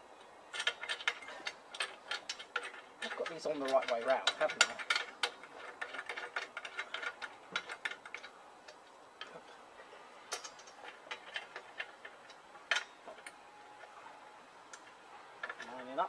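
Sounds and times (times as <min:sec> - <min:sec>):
small metallic clicks and ticks: 0:00.2 - 0:16.0.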